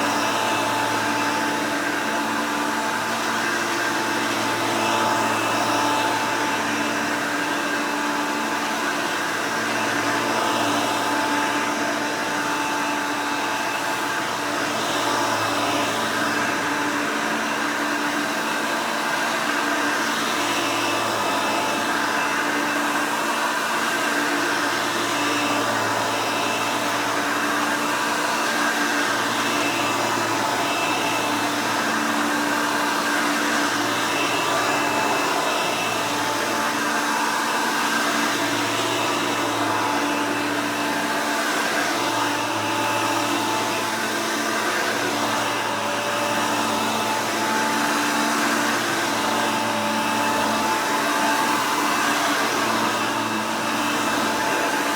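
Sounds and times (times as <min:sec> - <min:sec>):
upright vacuum cleaner running: 0:00.0 - 0:54.9.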